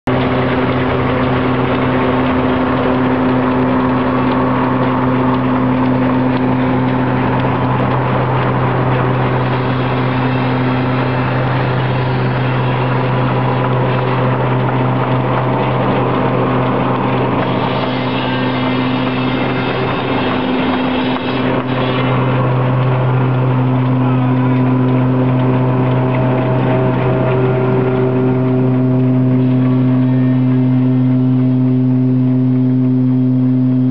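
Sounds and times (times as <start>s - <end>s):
threshing machine rattle: 0.1s - 30.8s
steam engine low hum: 0.1s - 33.9s.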